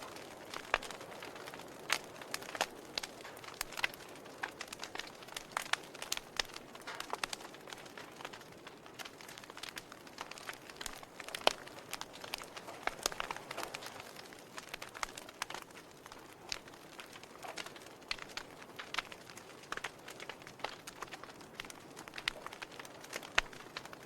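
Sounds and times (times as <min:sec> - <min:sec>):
sharp pops from fire: 0:00.0 - 0:24.0
wood fire crackling: 0:00.0 - 0:24.0.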